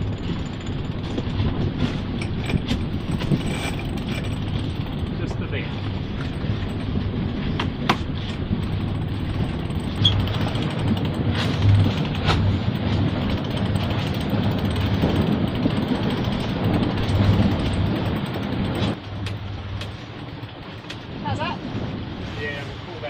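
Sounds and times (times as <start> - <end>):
low rumble aboard sailing yacht: 0.0 - 23.0.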